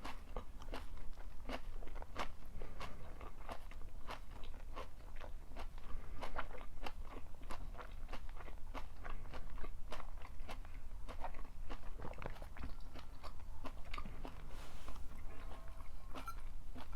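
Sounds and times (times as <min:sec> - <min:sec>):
person chewing crunchy food: 0:00.0 - 0:16.9.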